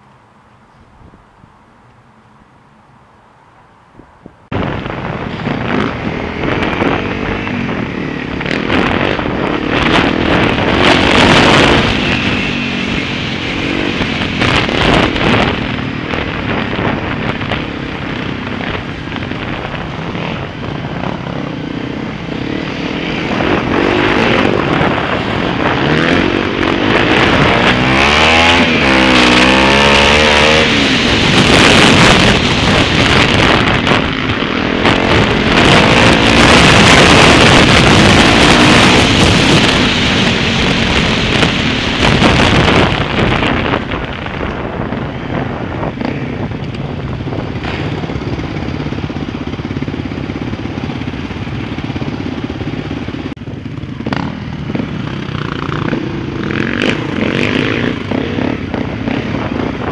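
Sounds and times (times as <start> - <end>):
wind hissing on microphone: 3.9 - 59.9
motorcycle engine revving: 4.5 - 59.9.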